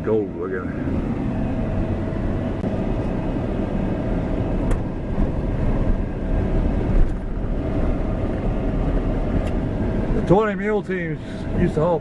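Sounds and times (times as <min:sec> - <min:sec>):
car rumbling on dirt road: 0:00.0 - 0:12.0.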